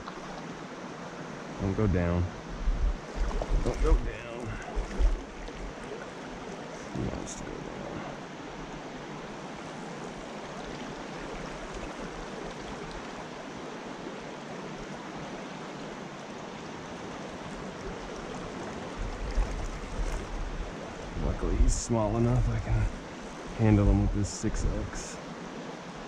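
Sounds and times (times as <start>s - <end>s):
creek water rushing over rocks: 0.0s - 26.0s.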